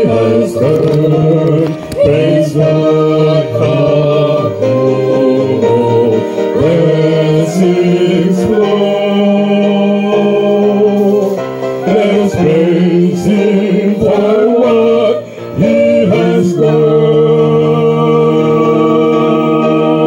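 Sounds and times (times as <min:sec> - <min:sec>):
group singing gospel song: 0:00.0 - 0:20.0
instrumental backing: 0:00.0 - 0:20.0.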